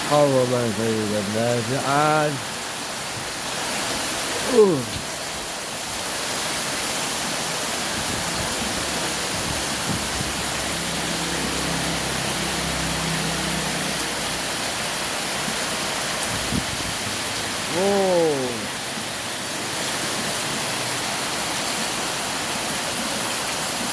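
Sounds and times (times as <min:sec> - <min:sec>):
heavy rain pouring: 0:00.0 - 0:23.9.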